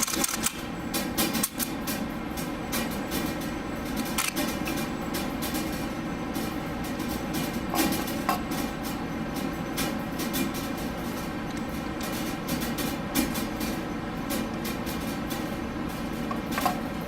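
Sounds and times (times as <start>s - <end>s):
ventilation noise: 0.0s - 17.0s.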